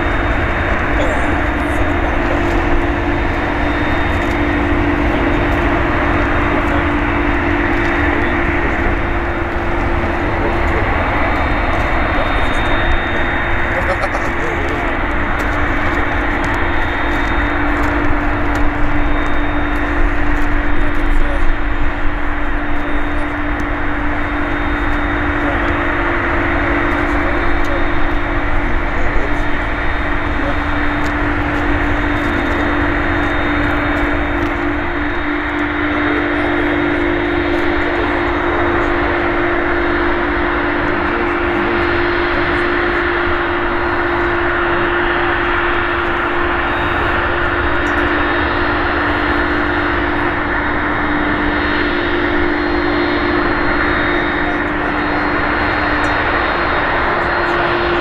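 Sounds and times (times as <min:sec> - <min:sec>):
jet engines running: 0:00.0 - 0:58.0
low hum: 0:00.0 - 0:58.0.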